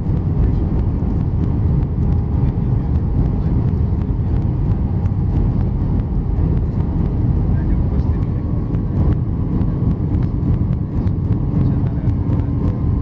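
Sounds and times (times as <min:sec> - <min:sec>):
jet engines and airflow rumble: 0:00.0 - 0:13.0.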